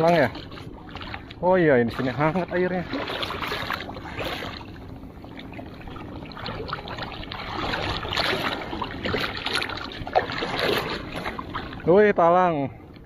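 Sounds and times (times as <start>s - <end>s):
small splashes: 0.0s - 11.9s
shallow water sloshing: 0.0s - 13.0s.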